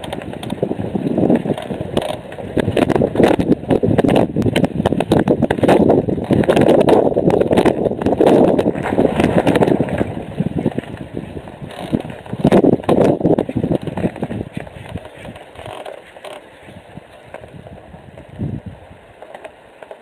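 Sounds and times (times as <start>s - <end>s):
knocks and crackles: 0.0s - 18.6s, 19.2s - 20.0s
wind buffeting microphone: 0.0s - 19.2s.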